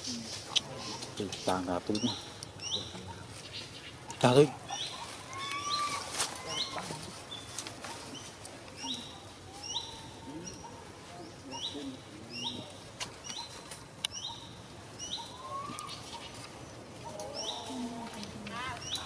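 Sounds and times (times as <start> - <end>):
bird chirping: 0.0 - 19.0
fainter lower bird calls: 0.0 - 19.0.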